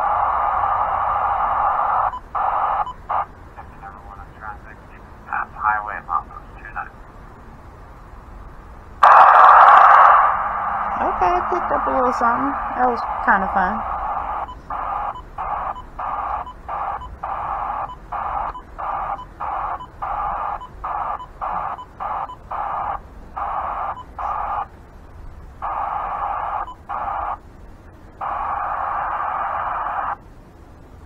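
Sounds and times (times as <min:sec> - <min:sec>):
radio static bursts: 0:00.0 - 0:06.9, 0:09.0 - 0:24.7, 0:25.6 - 0:27.4, 0:28.2 - 0:30.2.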